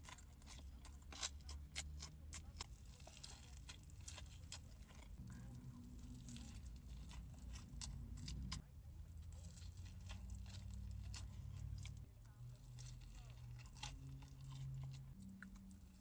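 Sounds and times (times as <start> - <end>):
chewing crunchy food: 0.0 - 16.0
low steady hum: 0.0 - 16.0.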